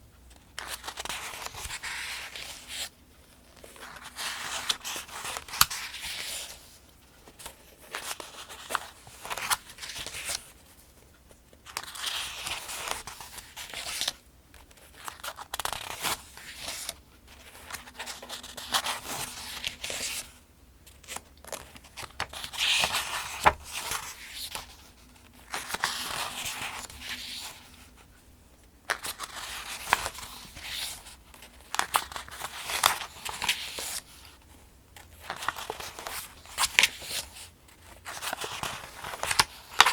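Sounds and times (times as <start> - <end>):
paper pages turning: 0.6 - 2.9, 3.6 - 6.6, 7.4 - 10.5, 11.6 - 20.3, 20.9 - 28.0, 28.9 - 34.4, 35.0 - 39.9.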